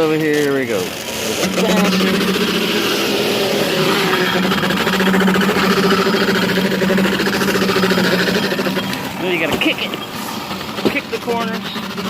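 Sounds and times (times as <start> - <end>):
machine motor humming: 0.8 - 12.0.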